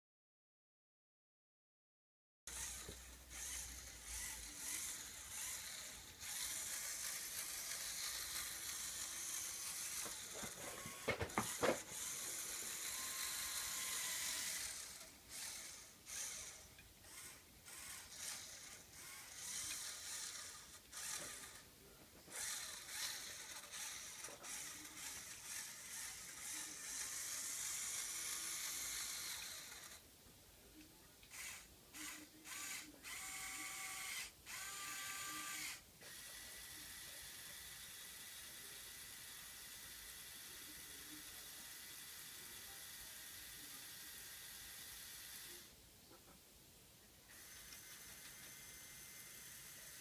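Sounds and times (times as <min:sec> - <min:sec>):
small electric motors whirring: 0:02.5 - 0:30.0, 0:31.3 - 0:45.8, 0:47.3 - 0:50.0.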